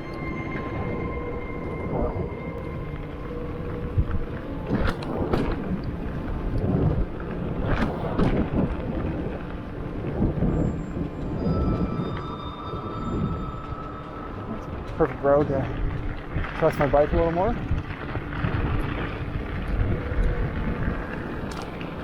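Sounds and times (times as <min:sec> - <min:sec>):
bike tyres rumbling on dirt: 0:02.0 - 0:22.0.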